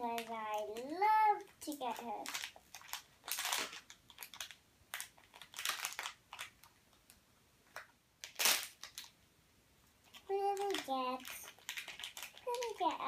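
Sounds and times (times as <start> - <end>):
foil packet crinkling: 0.0 - 7.2, 8.2 - 9.2, 10.1 - 13.0.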